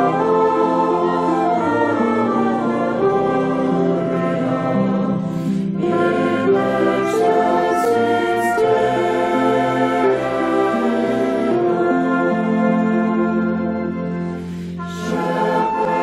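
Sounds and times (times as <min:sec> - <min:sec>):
choir singing held chords: 0:00.0 - 0:16.0
hissing consonants: 0:00.0 - 0:16.0.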